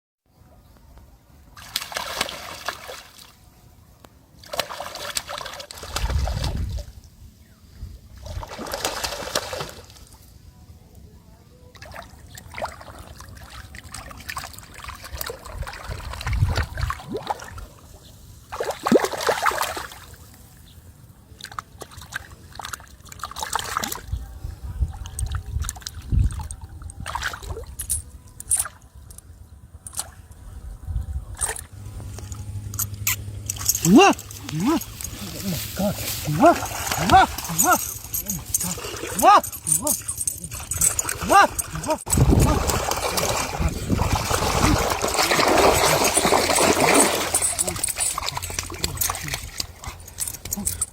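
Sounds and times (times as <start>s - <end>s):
water splashing and sloshing: 1.5s - 3.5s, 4.4s - 7.0s, 8.2s - 10.3s, 11.7s - 20.6s, 21.3s - 24.2s, 25.0s - 29.2s, 31.4s - 50.9s.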